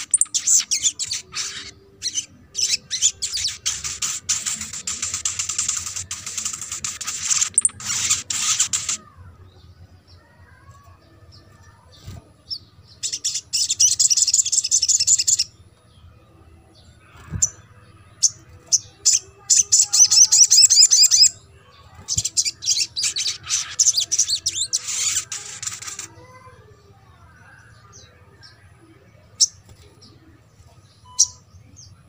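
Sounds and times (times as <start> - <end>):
bird twittering trills: 0.0 - 16.1, 16.8 - 26.6, 27.4 - 32.0.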